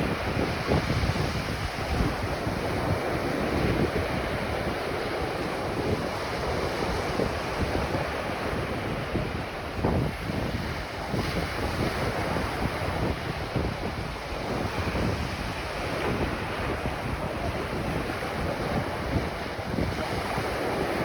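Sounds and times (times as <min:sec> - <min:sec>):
ocean surf on a beach: 0:00.0 - 0:21.0
wind buffeting microphone: 0:00.0 - 0:21.0.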